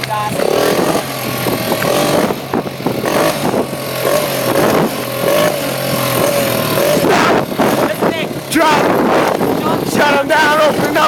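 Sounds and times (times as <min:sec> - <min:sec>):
small motorbike engine revving: 0:00.0 - 0:11.0.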